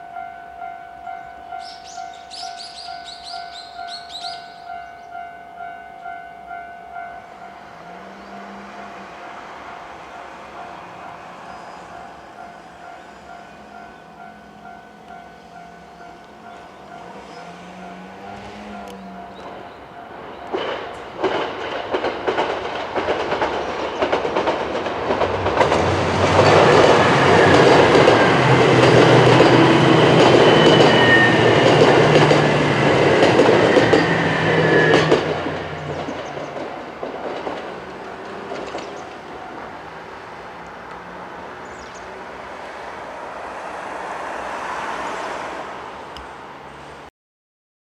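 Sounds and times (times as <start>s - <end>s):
diesel train passing: 0.0s - 47.1s.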